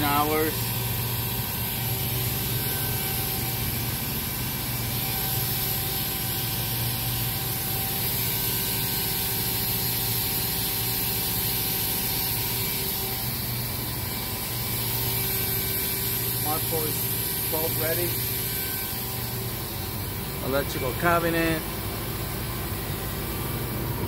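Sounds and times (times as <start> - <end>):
machine low hum: 0.0 - 24.0.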